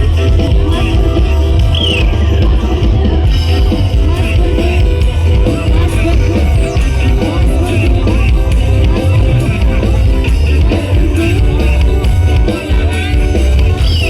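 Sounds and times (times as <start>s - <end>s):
loud heavy bass music: 0.0s - 14.0s.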